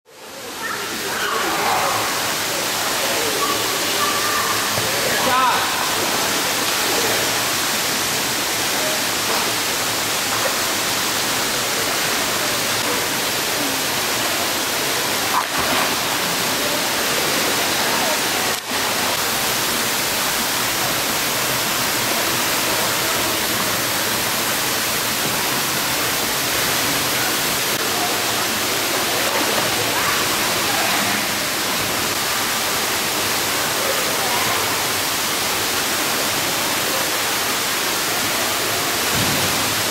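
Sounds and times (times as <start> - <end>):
water falling and splashing: 0.1 - 39.9.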